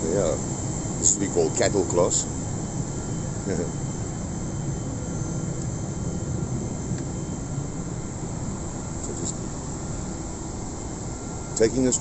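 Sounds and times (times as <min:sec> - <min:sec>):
air conditioning airflow: 0:00.0 - 0:12.0.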